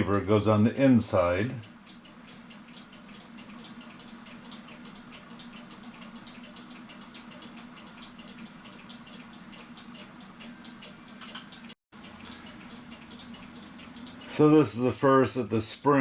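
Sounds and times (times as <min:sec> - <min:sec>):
steady low hum: 0:00.0 - 0:16.0
clock parts clicking and rattling: 0:01.0 - 0:14.8.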